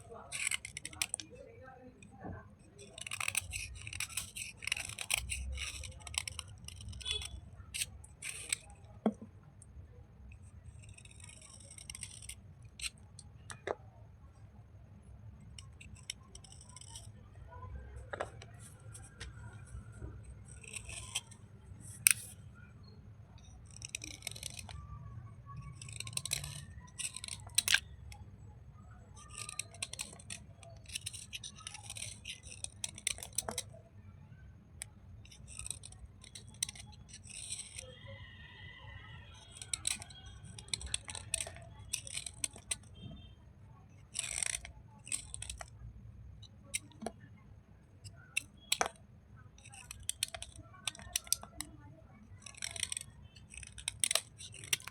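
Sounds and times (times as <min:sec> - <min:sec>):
gritty scraping of crumbling clay: 0:00.0 - 0:09.8, 0:10.4 - 0:13.8, 0:15.4 - 0:33.8, 0:34.7 - 0:54.9.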